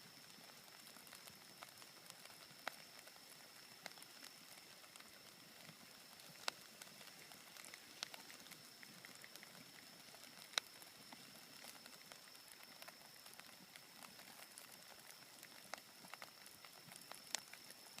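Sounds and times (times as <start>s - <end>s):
bonfire crackling: 0.0s - 18.0s
fire popping: 0.1s - 18.0s.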